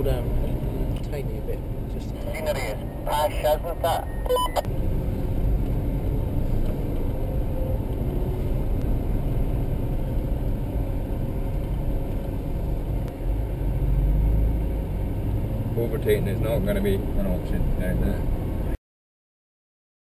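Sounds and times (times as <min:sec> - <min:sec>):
car engine rumble inside cabin: 0:00.0 - 0:18.8.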